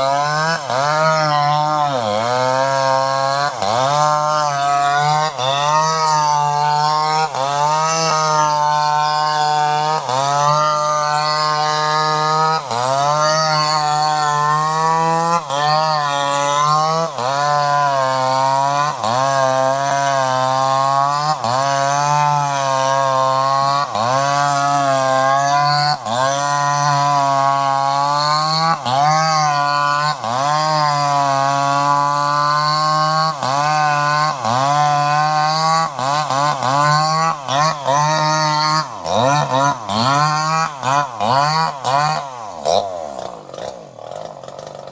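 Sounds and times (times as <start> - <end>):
chainsaw engine at high revs: 0.0 - 44.9.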